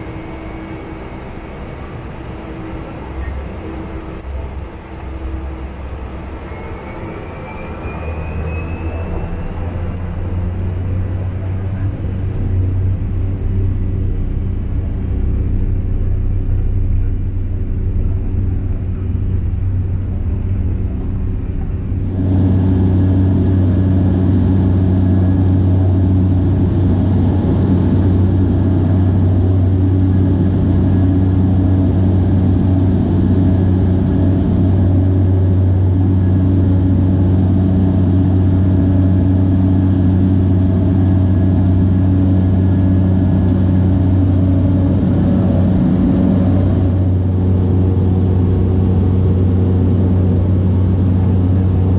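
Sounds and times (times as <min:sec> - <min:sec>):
high turbine whine: 0:00.0 - 0:51.9
propeller drone: 0:00.0 - 0:51.9.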